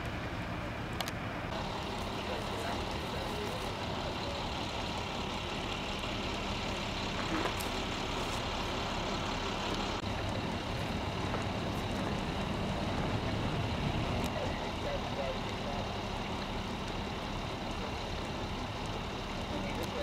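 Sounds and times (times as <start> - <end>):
large vehicle engine running: 0.0 - 20.0.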